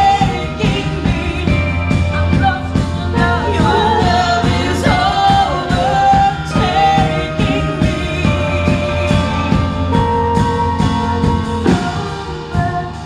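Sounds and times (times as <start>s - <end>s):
bass: 0.0s - 13.0s
person singing: 0.0s - 13.0s
steady drum beat: 0.0s - 13.0s.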